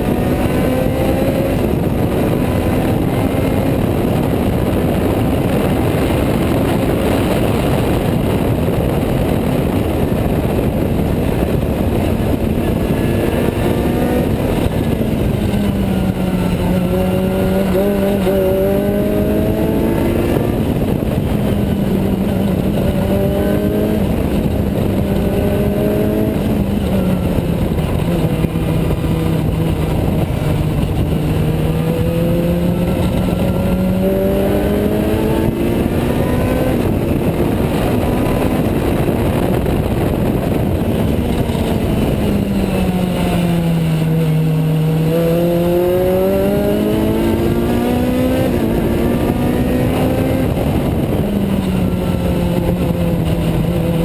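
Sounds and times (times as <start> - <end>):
race car engine at high revs: 0.0 - 54.0
wind and road noise: 0.0 - 54.0.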